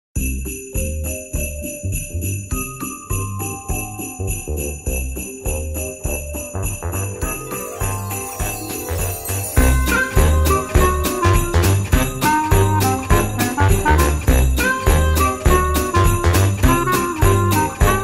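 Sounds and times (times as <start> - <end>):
bass beat: 0.2 - 18.0
festive music: 0.2 - 18.0
jingle bells shaking: 0.2 - 18.0.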